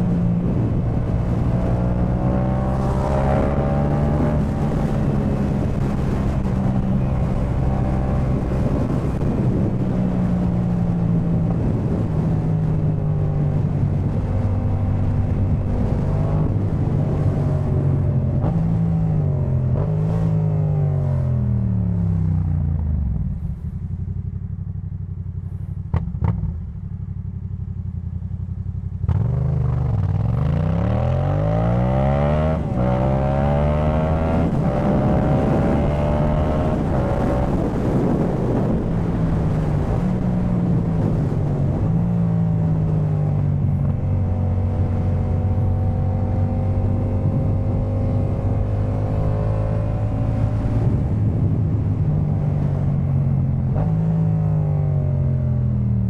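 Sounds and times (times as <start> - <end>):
motorcycle engine revving and idling: 0.0 - 56.0.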